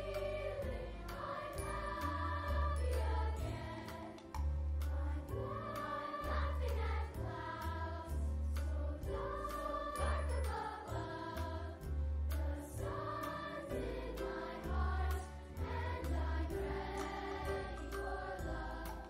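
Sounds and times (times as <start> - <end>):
choir singing: 0.0 - 19.0
light percussion: 0.0 - 19.0.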